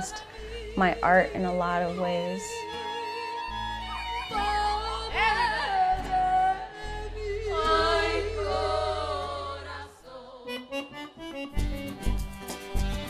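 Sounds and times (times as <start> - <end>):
women singing: 0.0 - 10.8
accordion: 0.0 - 13.0.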